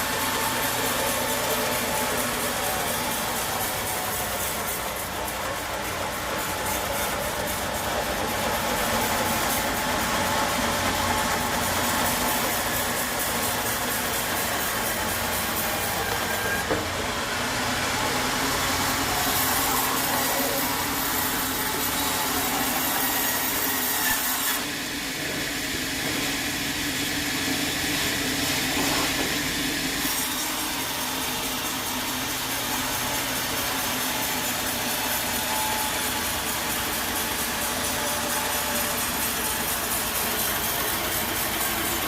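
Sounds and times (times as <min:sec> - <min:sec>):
sawmill saw cutting wood: 0:00.0 - 0:42.0.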